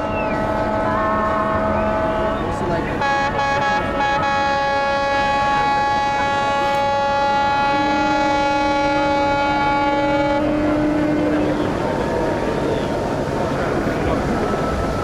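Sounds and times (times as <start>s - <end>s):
boat horns blasting: 0.0s - 15.0s
lower-pitched boat horn: 0.0s - 15.0s.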